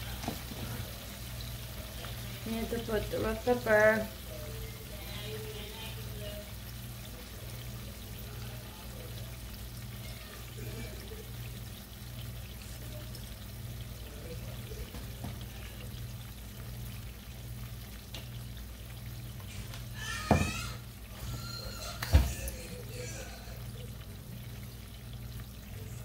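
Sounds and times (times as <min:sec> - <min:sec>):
food bubbling in a frying pan: 0:00.0 - 0:26.0.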